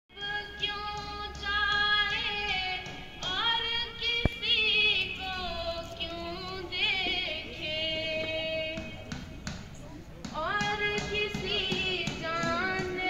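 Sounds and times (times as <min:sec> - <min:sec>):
girl singing over loudspeakers: 0:00.1 - 0:09.1, 0:10.3 - 0:13.0.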